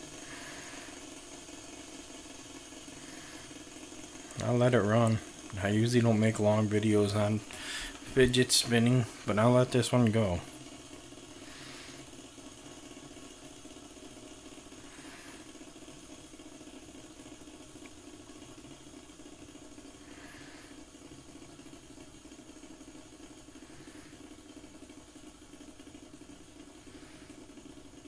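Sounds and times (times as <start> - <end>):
fidget spinner whirring: 0.0 - 28.0.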